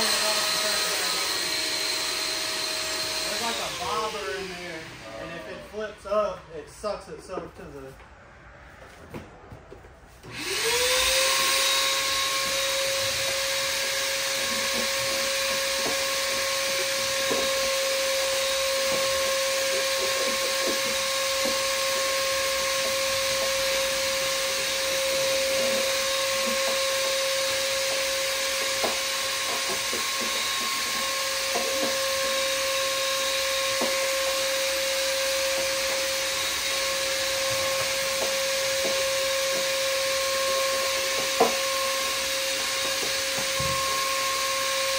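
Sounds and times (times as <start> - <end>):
shop vacuum running: 0.0 - 9.0, 10.1 - 44.9.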